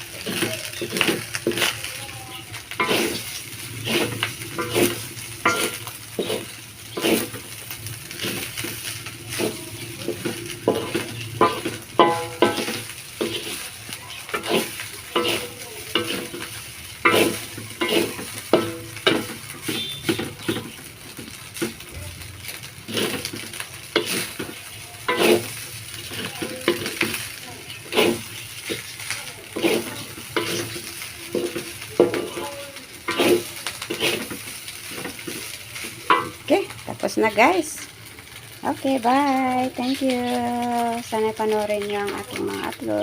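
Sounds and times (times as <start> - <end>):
spatula scraping a pan: 0.0 - 36.8
rice sizzling: 0.0 - 43.0.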